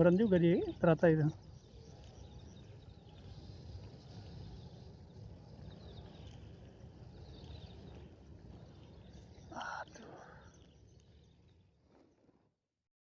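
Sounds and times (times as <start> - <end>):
wind rumbling on microphone: 0.0 - 12.0
faint bird chirps: 0.0 - 12.6.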